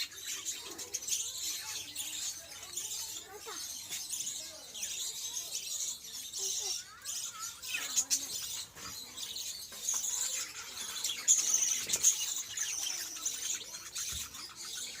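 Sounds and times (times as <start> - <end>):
parrots chattering: 0.0 - 15.0.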